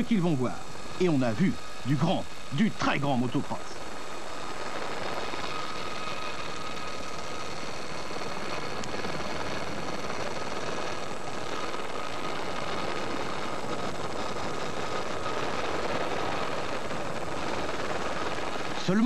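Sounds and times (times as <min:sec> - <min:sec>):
motocross bike engines droning: 0:00.0 - 0:19.0
tape hiss: 0:00.0 - 0:19.0.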